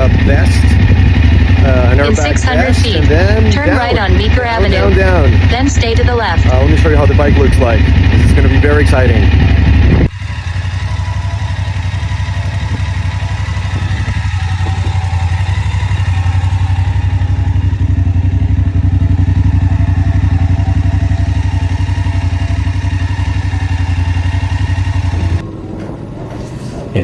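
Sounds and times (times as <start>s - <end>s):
motorcycle engine running: 0.0s - 25.5s.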